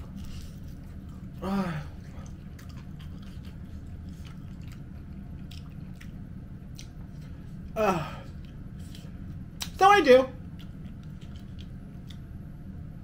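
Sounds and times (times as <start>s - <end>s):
person chewing: 0.0s - 9.8s, 10.4s - 12.4s.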